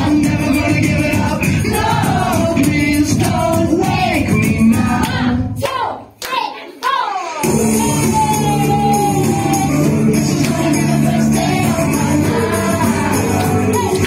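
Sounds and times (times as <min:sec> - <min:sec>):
upbeat song with singing: 0:00.0 - 0:14.0.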